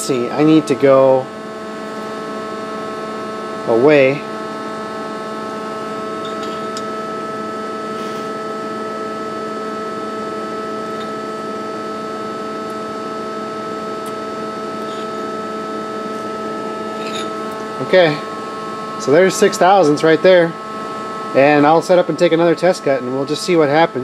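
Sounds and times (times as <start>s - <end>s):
lathe humming: 0.0s - 23.8s.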